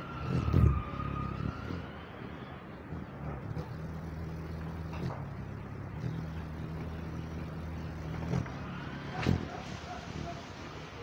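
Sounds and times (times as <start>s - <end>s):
engine running hum: 0.0s - 11.0s.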